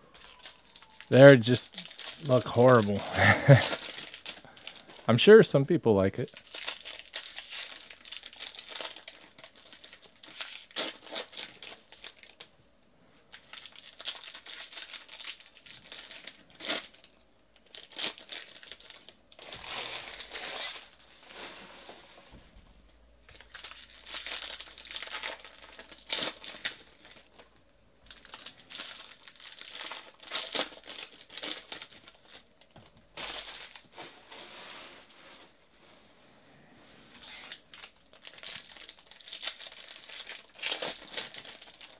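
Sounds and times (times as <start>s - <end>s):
foil wrappers crinkling and tearing: 0.1s - 5.3s, 6.2s - 12.5s, 13.3s - 21.5s, 23.3s - 34.0s, 37.2s - 41.9s.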